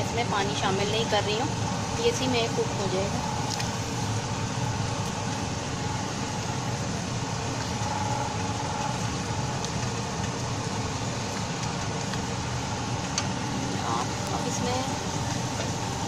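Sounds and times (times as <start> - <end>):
gas burner low rumble: 0.0 - 16.0
paste cooking in a pan: 0.4 - 16.0.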